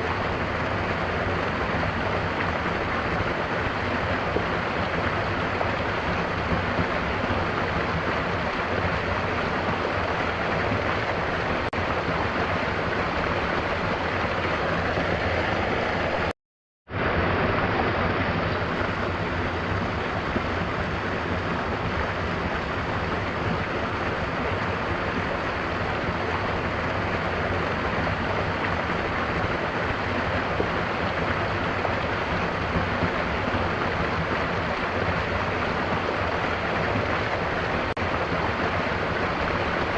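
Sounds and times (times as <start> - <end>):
waterfall rushing: 0.0 - 16.3, 16.9 - 39.9.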